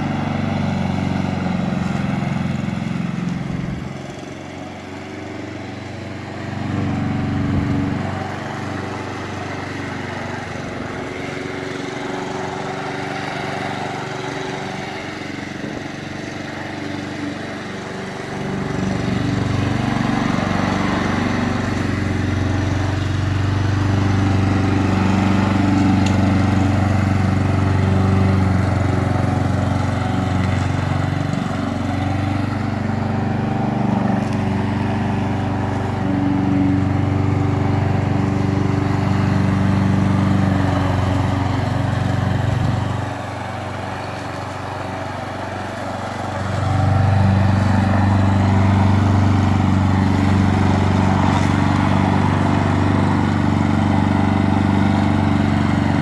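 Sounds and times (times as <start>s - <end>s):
lawn mower cutting grass: 0.0s - 56.0s.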